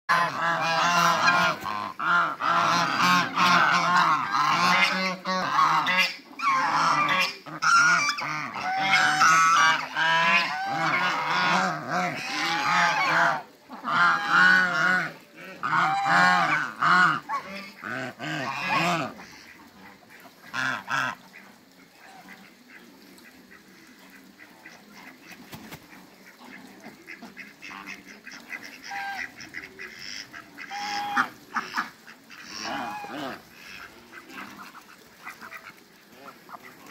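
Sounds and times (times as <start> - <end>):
geese honking: 0.1 - 25.5, 26.2 - 36.9.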